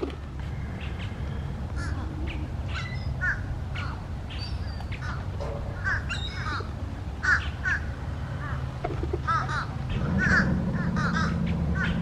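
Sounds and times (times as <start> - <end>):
birds short harsh calls: 0.0 - 12.0
steady low rumble: 0.0 - 12.0.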